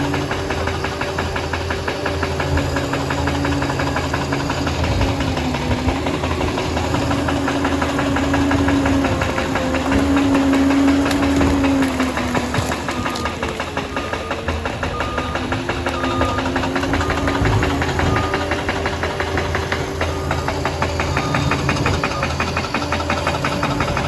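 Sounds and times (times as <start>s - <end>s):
bulldozer diesel engine clattering: 0.0s - 24.0s.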